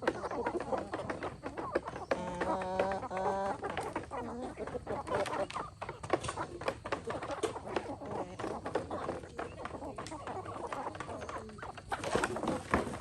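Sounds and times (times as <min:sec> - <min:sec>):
chickens clucking: 0:00.0 - 0:13.0
drawn-out chicken calls: 0:00.0 - 0:13.0.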